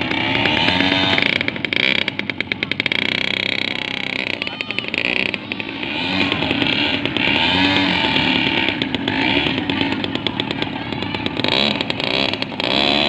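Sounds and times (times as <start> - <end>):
model boat engine buzzing: 0.0 - 13.0.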